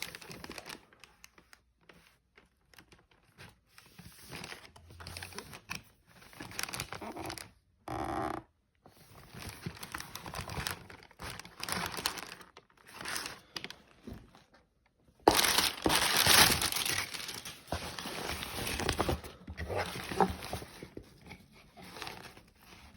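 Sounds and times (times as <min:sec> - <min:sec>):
packaging crinkling and rustling: 0:00.0 - 0:07.6, 0:08.9 - 0:22.9.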